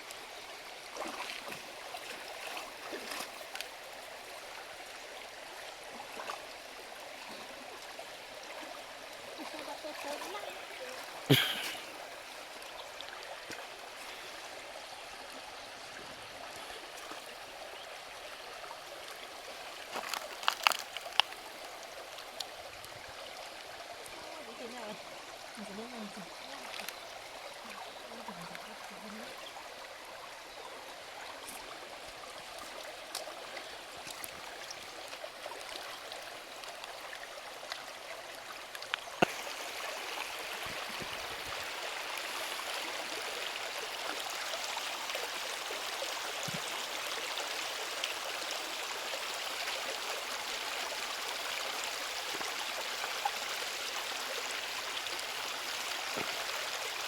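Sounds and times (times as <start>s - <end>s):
stream flowing water: 0.0s - 57.0s.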